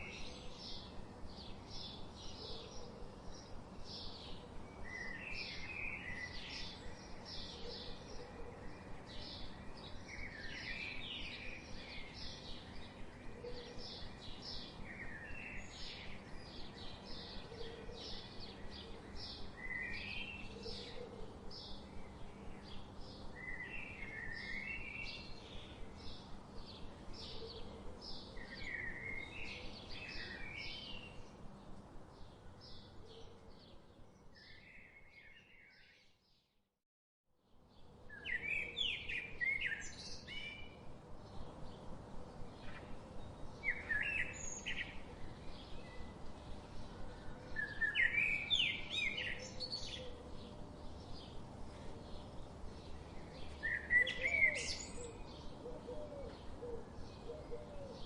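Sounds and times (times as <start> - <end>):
songbirds chirping: 0.0 - 36.6, 37.4 - 58.0.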